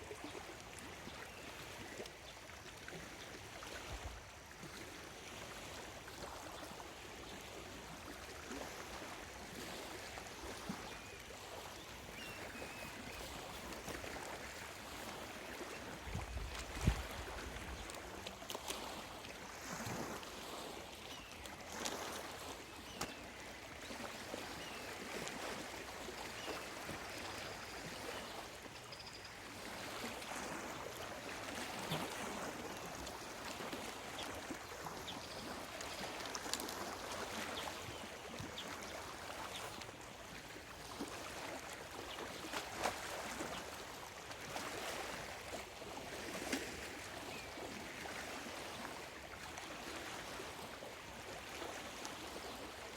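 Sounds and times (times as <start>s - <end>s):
waves lapping against shore: 0.0s - 52.9s.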